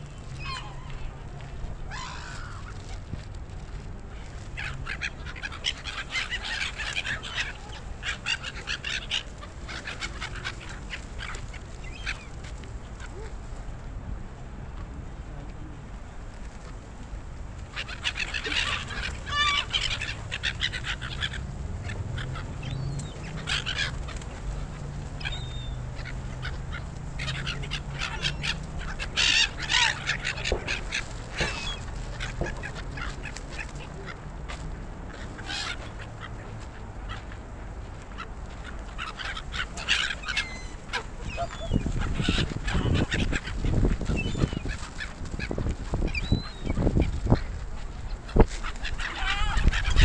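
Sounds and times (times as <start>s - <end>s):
gulls screeching: 0.0s - 3.0s, 4.5s - 13.3s, 17.6s - 37.5s, 38.1s - 50.0s.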